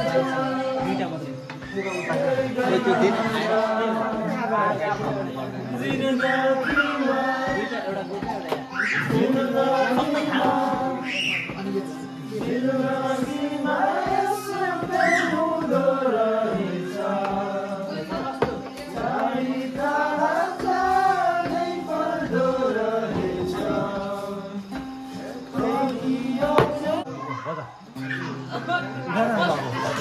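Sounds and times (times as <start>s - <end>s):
person singing: 0.0s - 4.5s, 5.8s - 27.1s.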